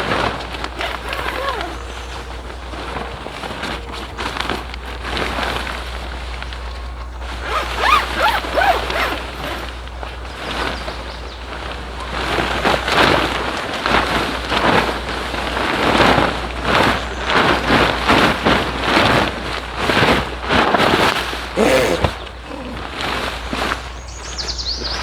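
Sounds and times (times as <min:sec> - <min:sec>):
water splashing on tent fabric: 0:00.0 - 0:25.0.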